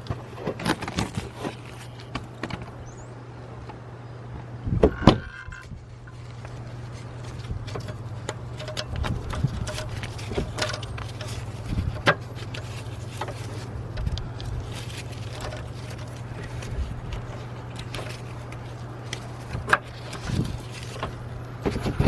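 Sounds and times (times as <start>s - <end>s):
low hum: 3.1s - 22.0s.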